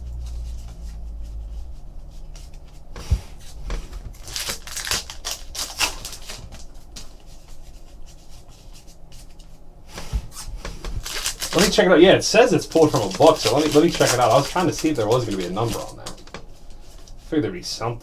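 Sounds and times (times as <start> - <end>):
cards rustling and sliding: 0.0 - 7.8, 8.5 - 11.8, 12.6 - 17.2.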